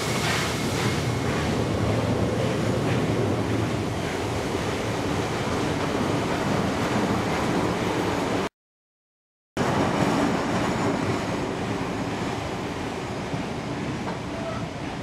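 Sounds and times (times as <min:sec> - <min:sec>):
train wheels rumbling on rails: 0:00.0 - 0:08.5, 0:09.6 - 0:15.0.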